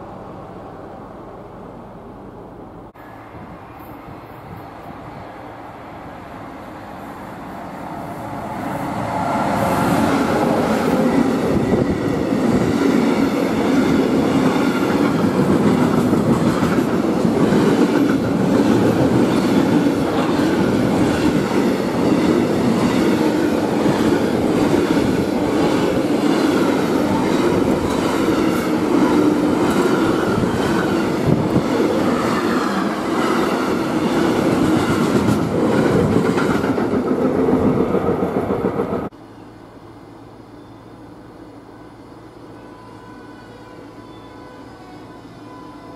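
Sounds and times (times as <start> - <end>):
electric locomotive approaching: 0.0 - 45.9.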